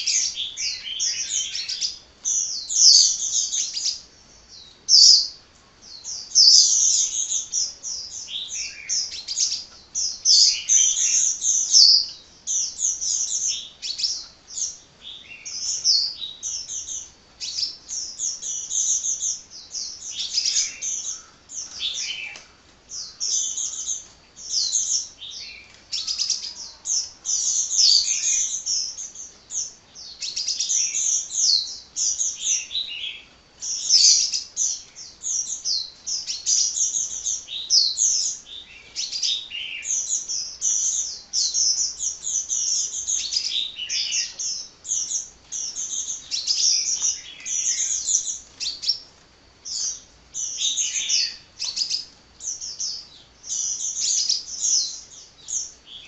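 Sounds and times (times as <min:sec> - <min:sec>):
bird twittering and chirping: 0:00.0 - 0:56.0.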